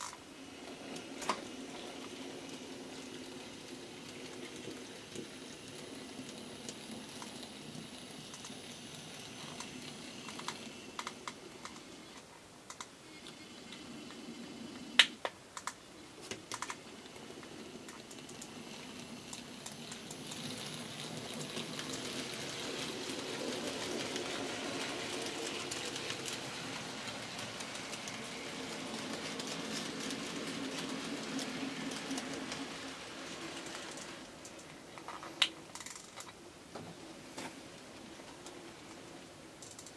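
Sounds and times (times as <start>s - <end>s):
wheels clicking over rail joints: 0.0s - 14.4s, 15.0s - 39.9s.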